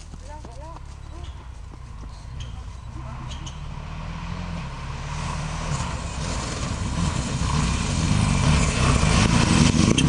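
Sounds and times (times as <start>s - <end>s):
rally car engine running hard: 1.2s - 10.0s.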